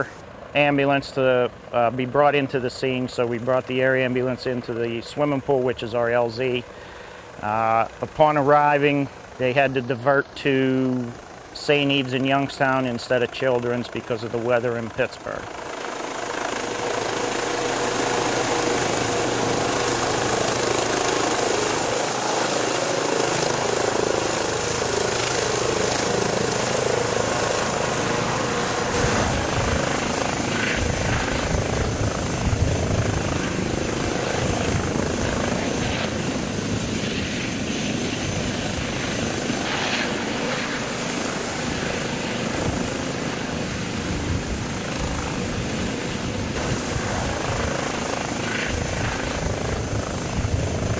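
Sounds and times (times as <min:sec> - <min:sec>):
helicopter hovering: 0:00.0 - 0:50.9.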